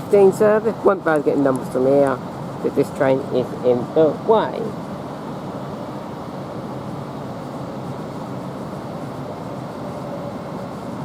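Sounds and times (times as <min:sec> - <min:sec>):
electric train passing: 0:00.0 - 0:11.0
faint steady hum: 0:00.0 - 0:11.0.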